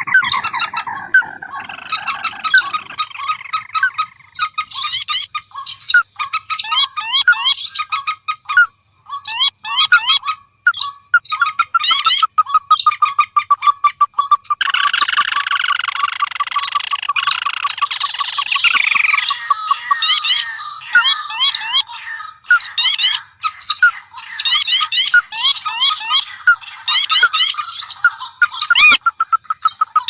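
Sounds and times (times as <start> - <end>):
marsh birds calling: 0.0 - 30.0.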